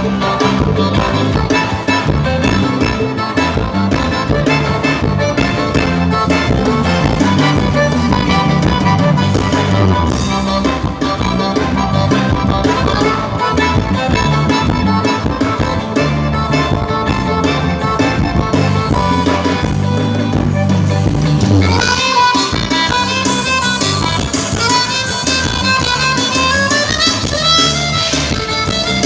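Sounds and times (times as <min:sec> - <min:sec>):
bass line: 0:00.0 - 0:29.0
drums: 0:00.0 - 0:29.0
higher melody instruments: 0:00.0 - 0:29.0
live band playing: 0:00.0 - 0:29.0.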